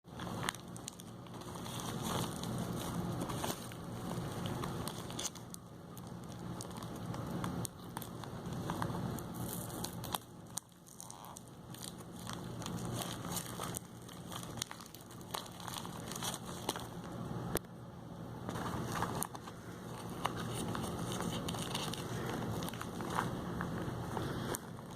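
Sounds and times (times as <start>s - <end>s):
plastic packaging crinkling: 0.1s - 17.3s, 18.4s - 24.9s.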